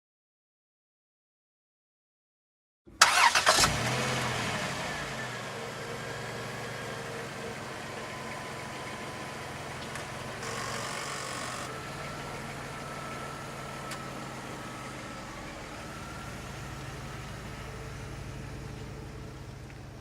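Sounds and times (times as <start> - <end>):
car engine idling: 2.9 - 20.0.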